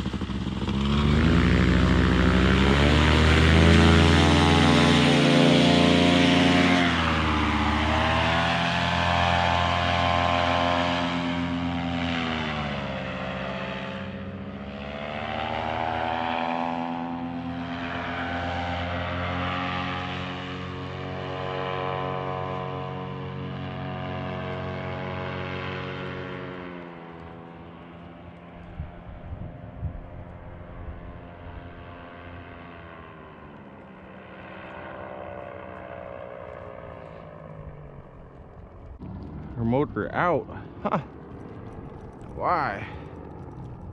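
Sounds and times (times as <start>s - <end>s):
paramotor engine and propeller: 0.0s - 43.9s.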